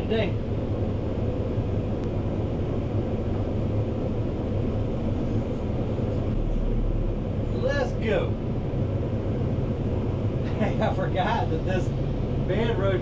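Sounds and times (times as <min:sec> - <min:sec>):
deep low hum: 0:00.0 - 0:13.0
diesel engine running: 0:00.0 - 0:13.0.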